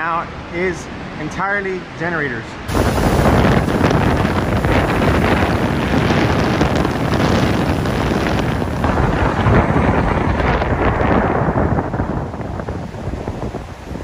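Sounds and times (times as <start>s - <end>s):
strong wind gusting through trees: 0.0s - 14.0s
wind buffeting microphone: 2.6s - 14.0s.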